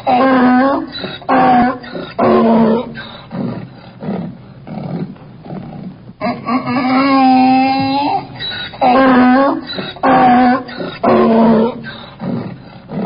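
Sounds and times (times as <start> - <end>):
donkey braying: 0.0 - 5.2, 6.2 - 12.8.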